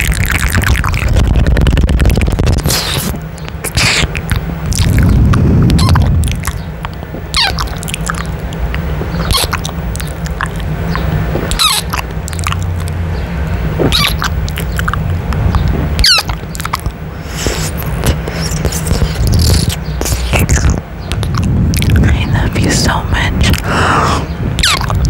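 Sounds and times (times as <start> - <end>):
wet kissing and lip-smacking: 0.0 - 10.7, 11.4 - 13.0, 13.8 - 22.1, 24.6 - 25.0
steady low rumble: 0.0 - 25.0.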